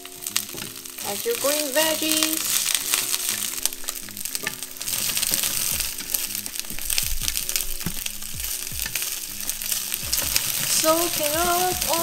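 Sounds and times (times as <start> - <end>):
background music with bass: 0.0 - 12.0
vegetables sizzling in hot oil: 0.0 - 12.0.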